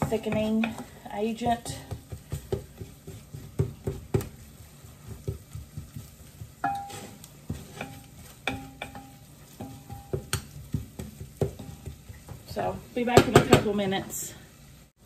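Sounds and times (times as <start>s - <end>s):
wooden spoon scraping a pot: 0.0s - 13.8s
faint sizzle: 0.0s - 15.0s.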